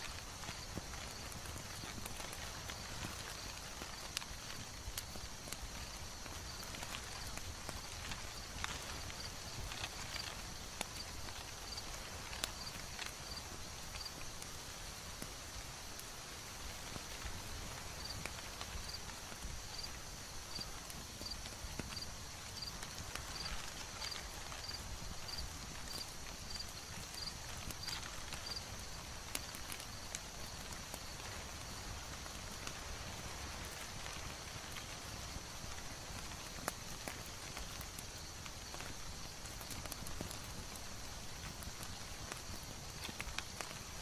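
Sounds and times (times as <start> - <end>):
sharp crackling pops: 0.0 - 44.0
steady soft hiss: 0.0 - 44.0.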